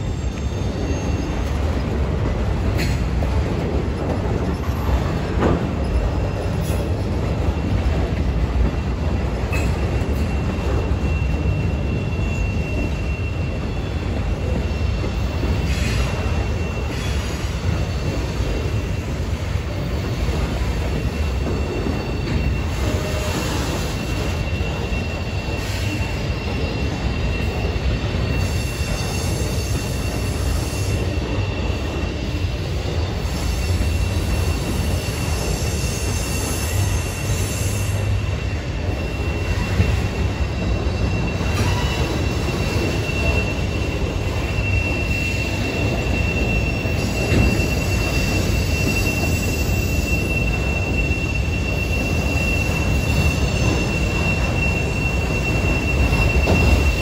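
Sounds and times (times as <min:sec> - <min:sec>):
thin high wheel squeal: 0:00.0 - 0:01.8, 0:09.1 - 0:20.0, 0:20.6 - 0:57.0
steel wheels rumbling on rail: 0:00.0 - 0:57.0.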